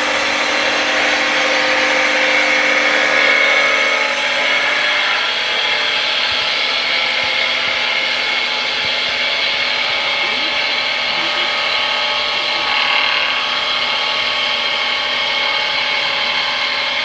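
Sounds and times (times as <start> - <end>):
wood lathe cutting wood: 0.0 - 17.0.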